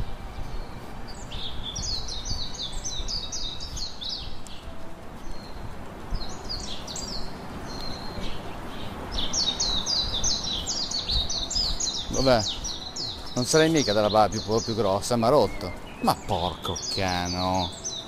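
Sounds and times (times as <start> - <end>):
outdoor background noise: 0.0 - 18.0
songbird chirping: 0.0 - 18.0.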